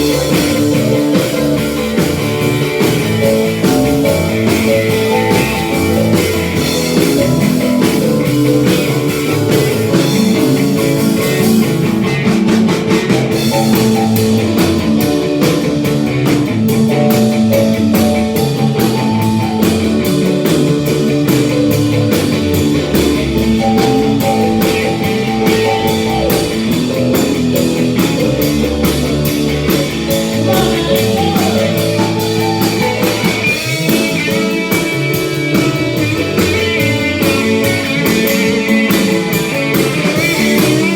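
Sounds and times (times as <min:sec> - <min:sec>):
rock music: 0:00.0 - 0:40.9.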